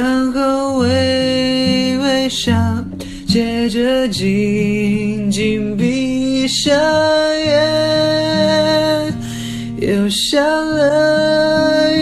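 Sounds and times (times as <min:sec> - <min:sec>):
acoustic guitar: 0:00.0 - 0:12.0
young man singing pop ballad: 0:00.0 - 0:12.0.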